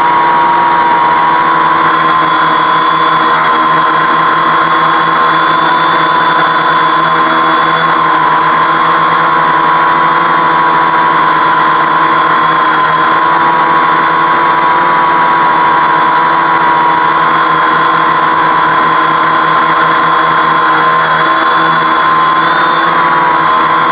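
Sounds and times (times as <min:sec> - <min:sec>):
drone propellers buzzing whine: 0:00.0 - 0:23.9.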